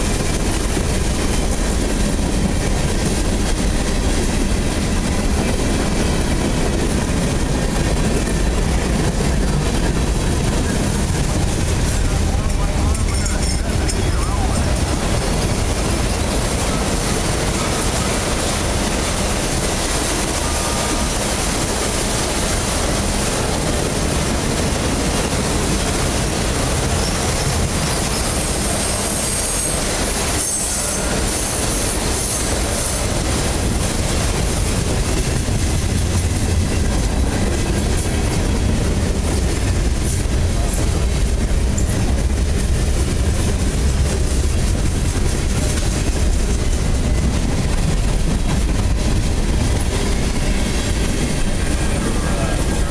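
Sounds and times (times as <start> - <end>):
steel train wheels rumbling on rail: 0.0 - 52.9.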